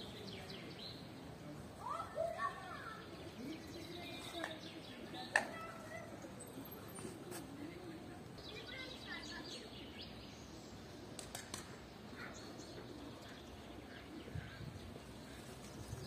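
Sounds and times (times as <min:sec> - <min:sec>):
low outdoor background: 0:00.0 - 0:16.0
small birds chirping faintly: 0:00.0 - 0:16.0.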